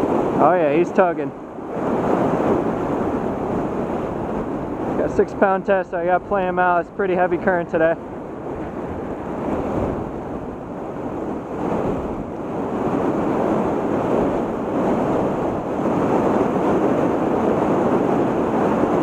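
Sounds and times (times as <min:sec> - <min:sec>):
river rushing through whitewater: 0:00.0 - 0:19.0.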